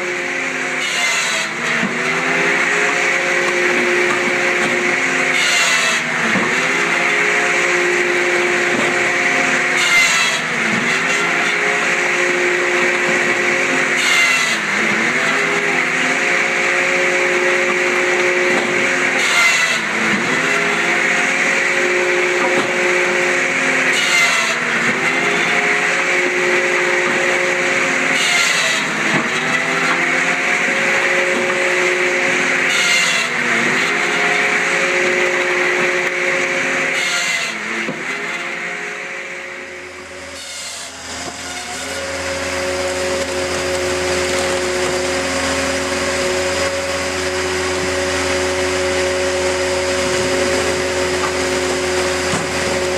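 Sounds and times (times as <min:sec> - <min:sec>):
firewood processor engine: 0:00.0 - 0:52.9.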